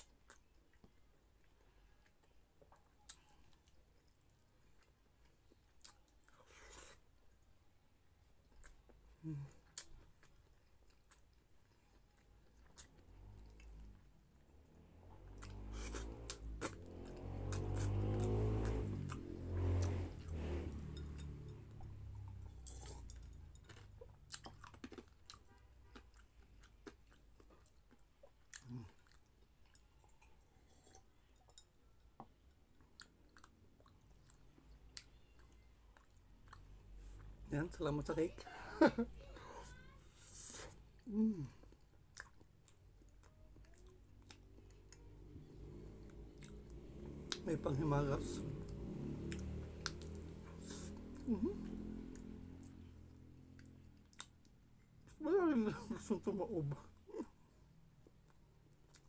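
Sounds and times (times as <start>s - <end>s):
person chewing food: 0.0s - 37.4s, 40.4s - 47.8s, 48.5s - 59.0s.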